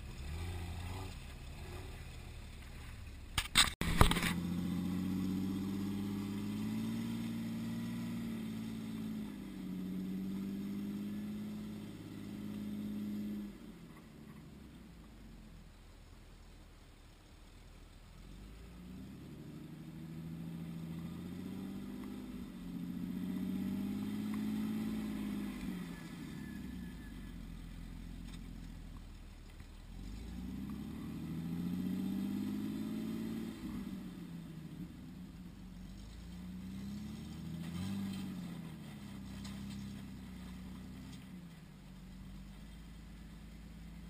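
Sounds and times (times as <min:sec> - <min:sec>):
off-road vehicle engines revving: 0:00.0 - 0:16.0, 0:16.8 - 0:44.0.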